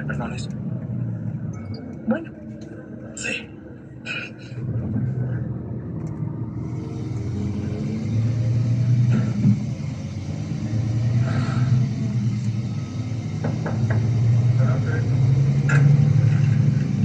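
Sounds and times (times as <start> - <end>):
coach engine drone: 0.0 - 17.0.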